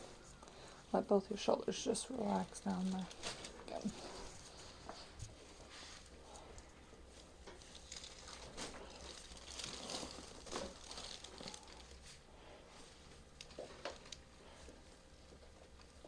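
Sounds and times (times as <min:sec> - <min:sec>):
clothing and skin rustling: 0:01.0 - 0:16.0.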